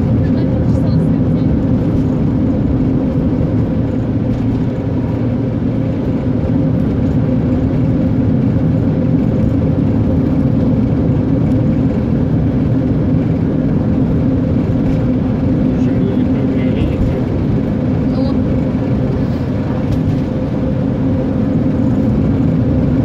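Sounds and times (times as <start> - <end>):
car engine and tyres on road: 0.0 - 23.0.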